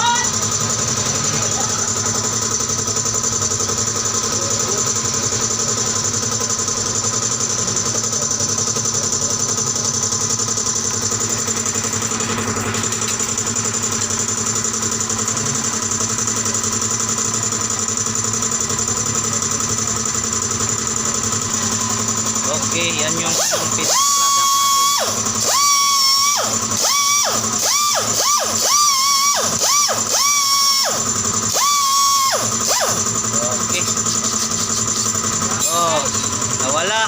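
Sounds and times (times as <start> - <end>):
machine motor hum with whine: 0.0 - 37.0.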